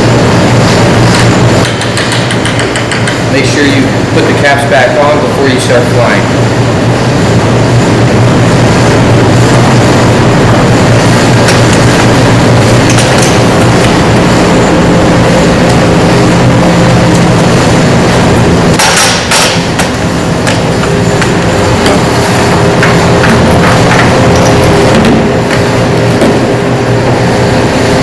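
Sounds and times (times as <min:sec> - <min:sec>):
heater droning: 0:00.0 - 0:28.0.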